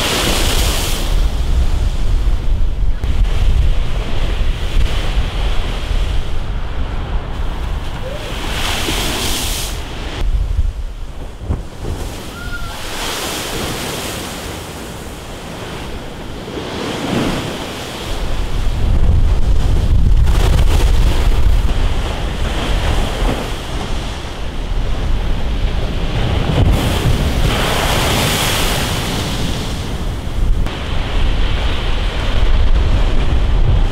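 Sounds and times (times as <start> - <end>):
wind noise on microphone: 0.0 - 33.9
waves breaking against seawall: 3.0 - 33.9.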